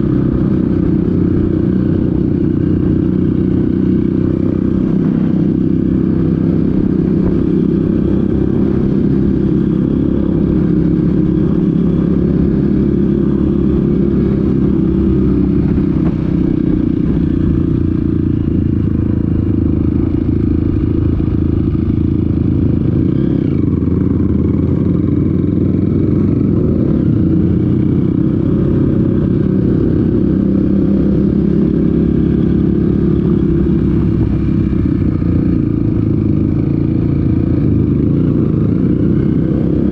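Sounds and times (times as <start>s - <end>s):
off-road motorcycle engine running: 0.0s - 39.9s.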